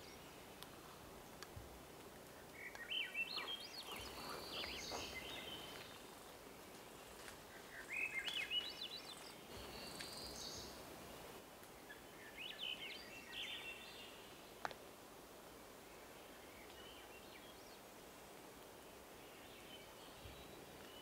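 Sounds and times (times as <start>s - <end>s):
songbird singing: 0.0s - 1.0s, 2.1s - 14.7s, 15.7s - 18.1s, 18.8s - 21.0s
faint steady hiss: 0.0s - 21.0s.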